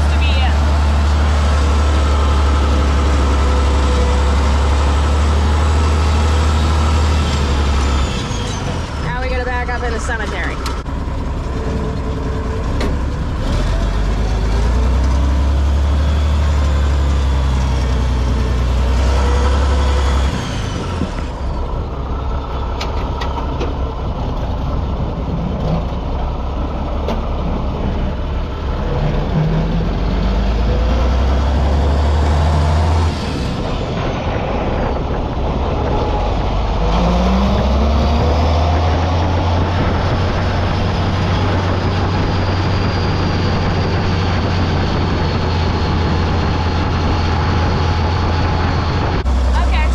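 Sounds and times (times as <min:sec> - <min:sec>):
tractor engine running under load: 0:00.0 - 0:49.9.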